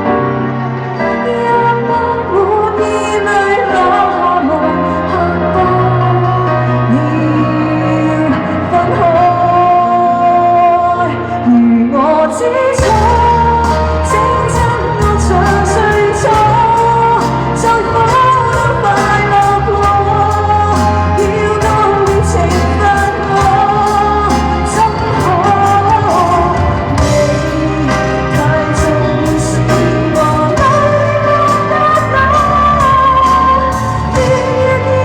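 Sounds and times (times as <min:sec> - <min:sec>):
pop song with singing and band: 0:00.0 - 0:35.0.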